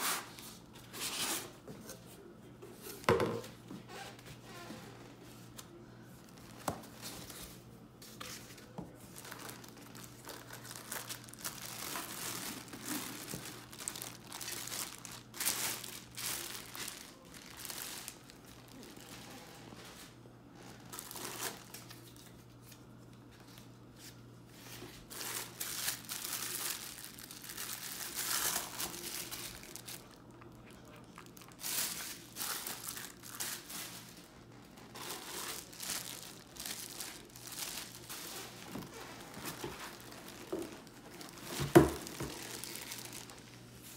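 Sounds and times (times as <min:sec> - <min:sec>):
plastic wrap crinkling and tearing: 0:05.5 - 0:23.6, 0:24.6 - 0:43.9.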